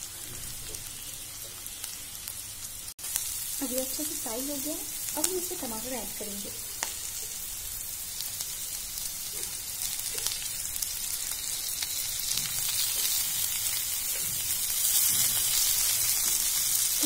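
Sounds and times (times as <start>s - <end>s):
vegetables sizzling in ghee: 0.0s - 17.0s.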